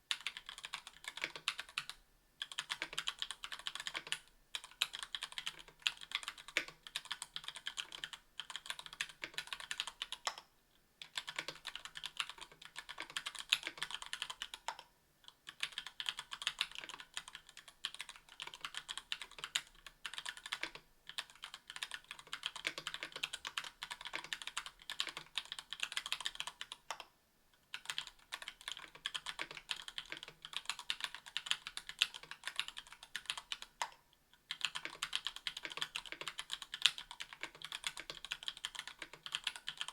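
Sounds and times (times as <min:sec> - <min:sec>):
fast keyboard typing: 0:00.1 - 0:10.4, 0:11.0 - 0:14.8, 0:15.5 - 0:26.9, 0:27.7 - 0:39.9.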